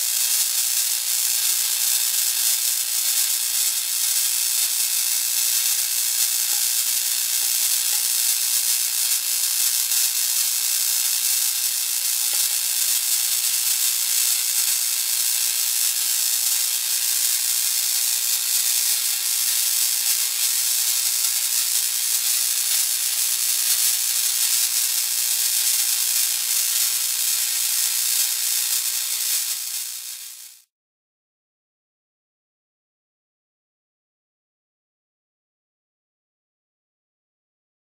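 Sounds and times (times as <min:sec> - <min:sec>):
high-pitched electrical hiss: 0:00.0 - 0:30.7.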